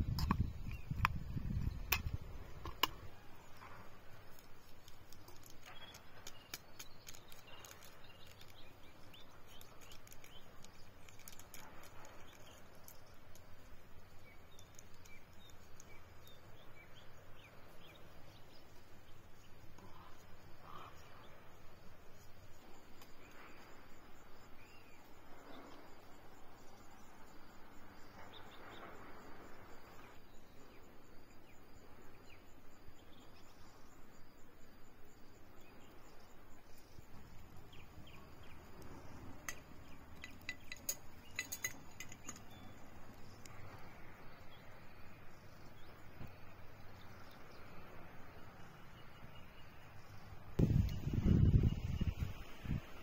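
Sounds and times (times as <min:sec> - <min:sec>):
faint woodland ambience: 0:00.0 - 0:53.0
soft bird chirps: 0:00.0 - 0:53.0.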